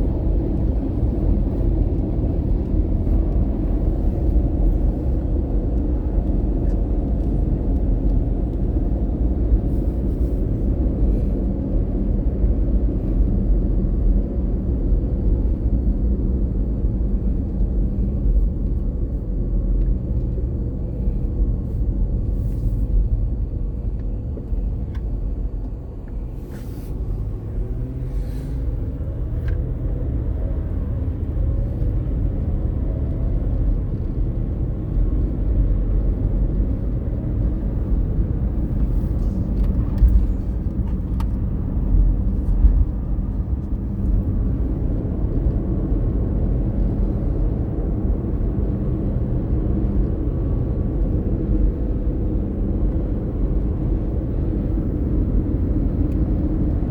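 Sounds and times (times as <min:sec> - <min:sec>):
car rumbling on road: 0:00.0 - 0:56.9.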